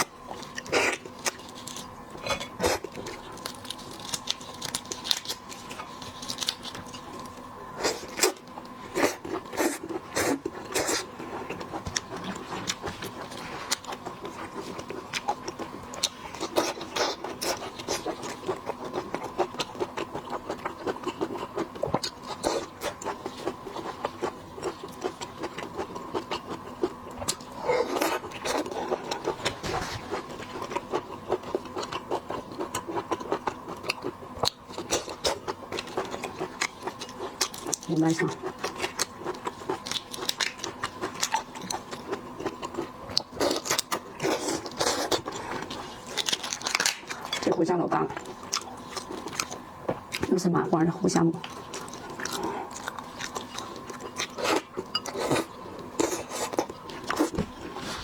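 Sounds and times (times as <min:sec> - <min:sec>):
wet chewing: 0:00.0 - 0:50.4, 0:51.4 - 0:58.0
faint steady hum: 0:00.0 - 0:58.0.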